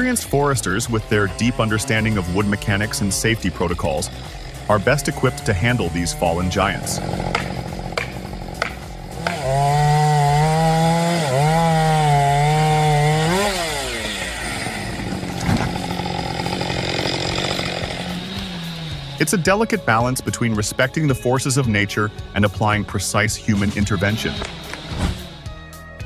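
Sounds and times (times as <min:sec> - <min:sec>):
chainsaw revving: 0:00.0 - 0:20.0, 0:23.4 - 0:25.5.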